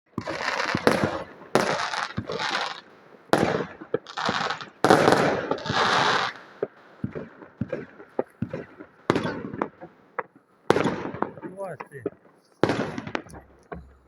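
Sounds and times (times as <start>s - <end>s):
fireworks crackling bursts: 0.1s - 14.0s.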